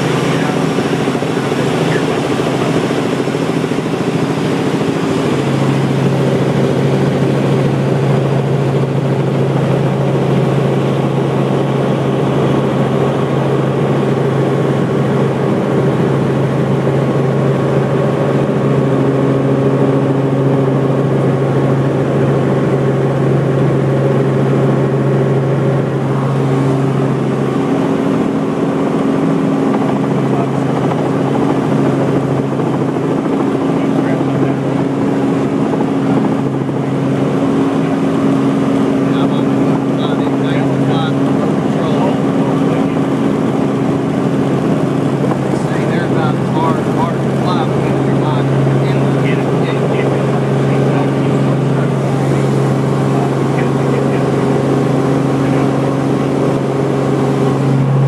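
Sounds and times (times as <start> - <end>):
helicopter engine and rotor drone: 0.0 - 58.0
low hum: 0.0 - 58.0.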